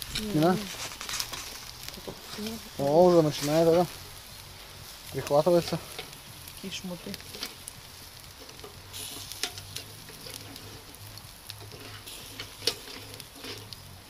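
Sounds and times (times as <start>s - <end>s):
meat sizzling over charcoal: 0.0s - 14.0s.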